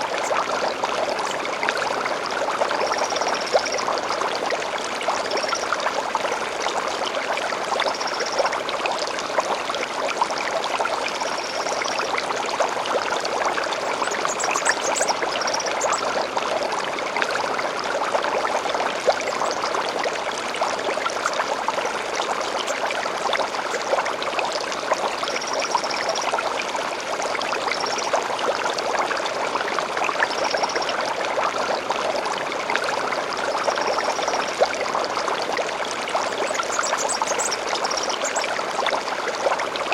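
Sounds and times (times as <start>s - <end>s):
stream flowing and splashing: 0.0s - 39.9s.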